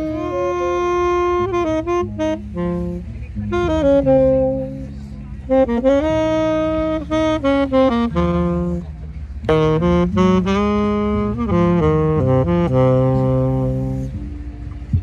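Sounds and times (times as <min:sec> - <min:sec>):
low bass line: 0:00.0 - 0:15.0
tenor saxophone jazz melody: 0:00.0 - 0:15.0.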